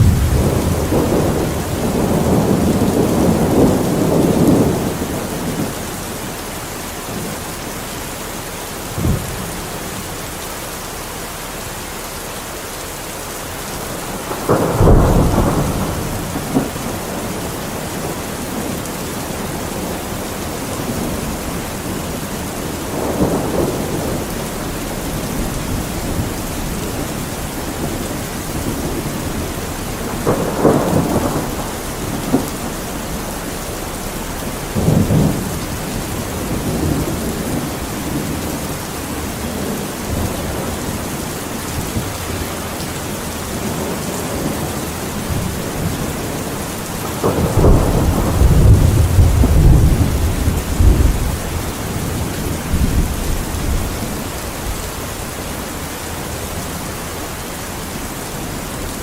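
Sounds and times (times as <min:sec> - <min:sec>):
thunder rumbling: 0:00.0 - 0:10.8, 0:13.3 - 0:59.0
heavy rain: 0:00.0 - 0:59.0.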